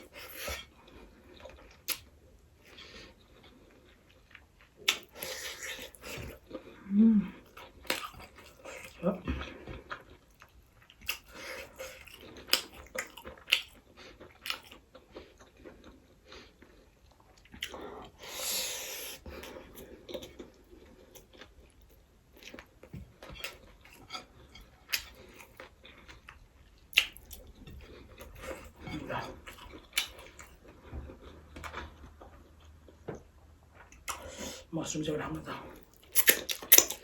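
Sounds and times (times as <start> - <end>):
person chewing food: 0.0 - 34.7, 35.6 - 37.0.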